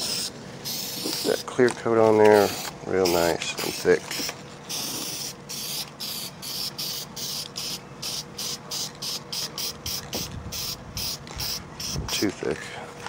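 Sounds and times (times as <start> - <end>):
spray can hissing in bursts: 0.0 - 1.4, 2.3 - 12.2.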